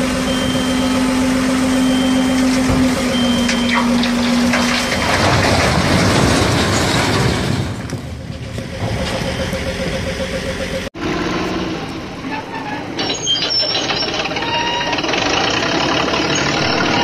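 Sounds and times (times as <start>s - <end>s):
tipper truck running: 0.0s - 17.0s.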